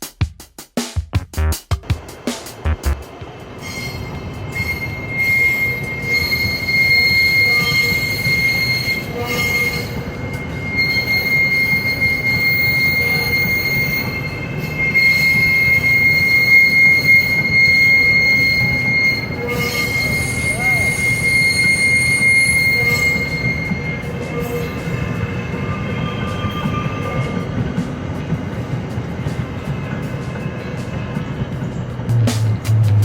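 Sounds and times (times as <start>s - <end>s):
train running gear rumble: 1.8s - 33.0s
train wheels squealing: 3.6s - 31.9s.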